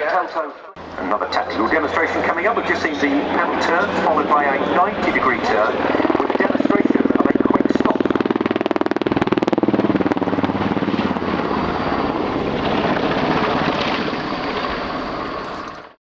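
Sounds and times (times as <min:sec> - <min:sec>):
helicopter rotor and turbine: 0:00.8 - 0:16.0.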